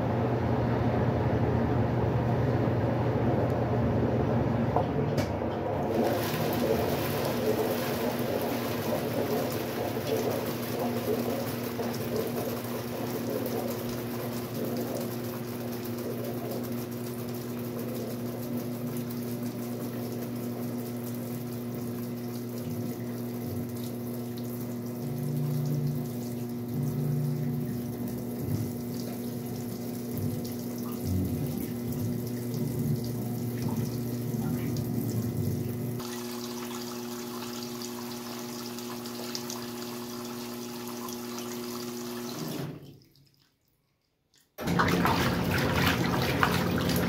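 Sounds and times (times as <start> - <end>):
low electrical hum: 0.0 - 47.0
water running into washing machine: 4.6 - 47.0.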